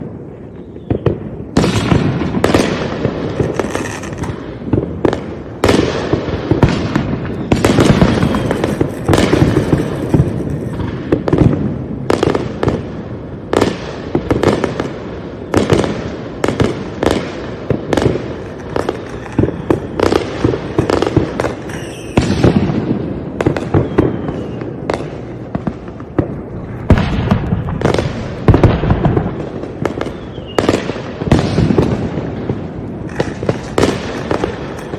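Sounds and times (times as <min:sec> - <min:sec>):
fireworks bangs and crackle: 0:00.0 - 0:34.9.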